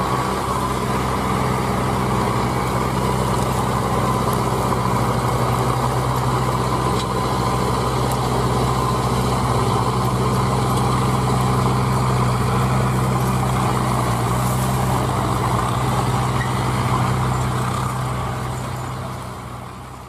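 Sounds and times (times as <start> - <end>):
diesel engines running under load: 0.0 - 20.0.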